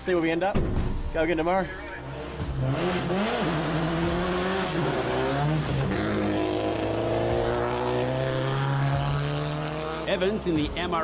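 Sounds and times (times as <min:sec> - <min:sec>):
rally car engine revving: 0:02.1 - 0:11.0.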